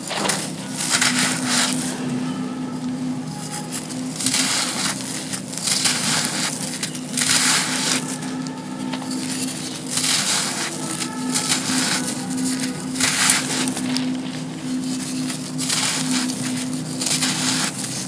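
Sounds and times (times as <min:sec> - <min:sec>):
sand crunching: 0:00.0 - 0:18.0.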